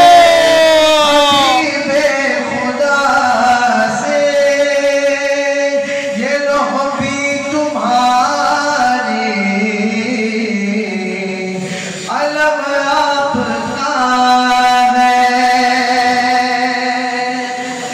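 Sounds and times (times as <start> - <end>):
man singing into a microphone: 0.0 - 17.9.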